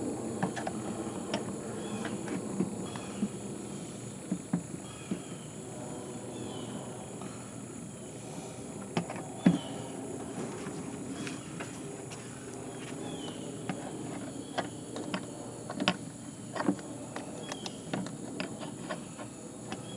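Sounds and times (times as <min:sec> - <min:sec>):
insect drone: 0:00.0 - 0:19.9.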